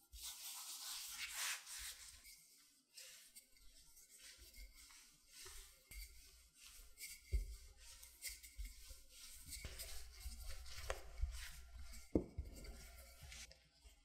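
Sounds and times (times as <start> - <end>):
rolling pin rubbing on dough: 0.2 - 13.5.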